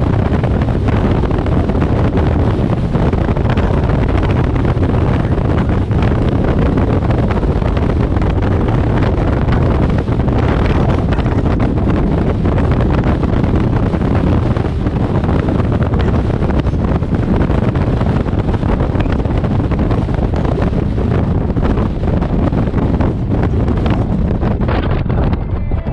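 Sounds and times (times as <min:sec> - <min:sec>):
car road and tyre noise: 0:00.0 - 0:25.9
wind buffeting microphone: 0:00.0 - 0:25.9.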